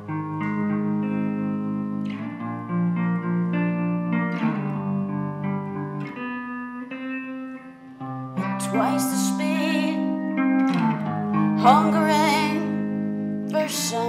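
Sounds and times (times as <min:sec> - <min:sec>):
electric guitar chords: 0:00.0 - 0:14.0.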